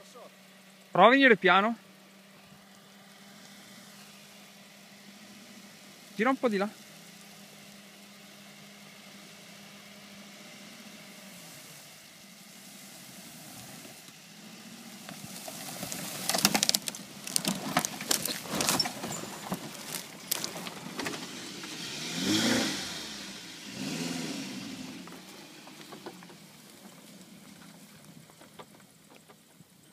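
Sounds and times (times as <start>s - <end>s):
car engine at crawling speed: 0.0s - 29.9s
grass and twigs scraping car: 0.0s - 29.9s.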